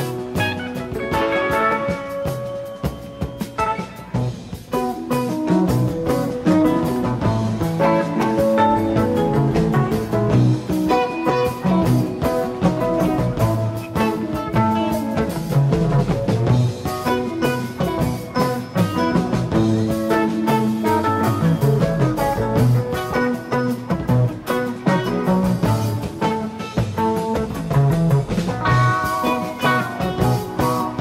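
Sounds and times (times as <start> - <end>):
guitar rock music with drums: 0.0 - 31.0.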